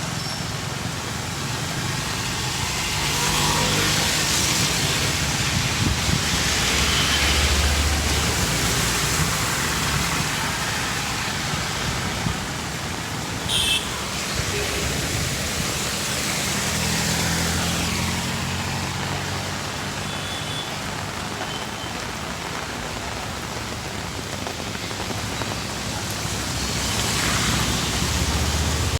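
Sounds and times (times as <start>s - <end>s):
steady rain falling: 0.0s - 28.9s
vehicles passing on wet road: 0.0s - 28.9s.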